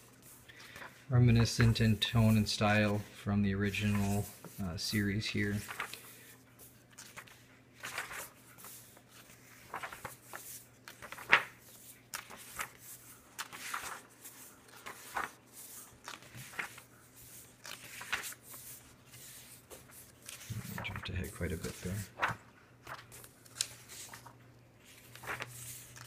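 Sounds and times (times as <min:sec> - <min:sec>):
comic book pages turning: 0:00.0 - 0:26.0.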